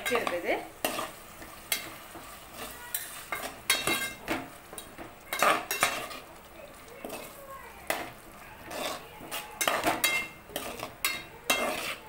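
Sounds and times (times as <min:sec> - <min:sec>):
spoon scraping metal pan: 0:00.0 - 0:06.3, 0:07.0 - 0:12.0.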